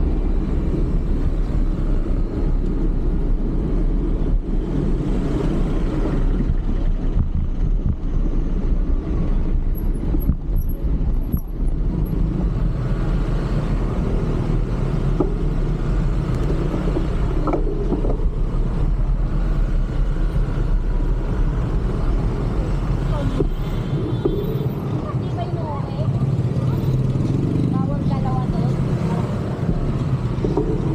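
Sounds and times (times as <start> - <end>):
passing vehicles: 0.0 - 30.9
wind rumble: 0.0 - 30.9.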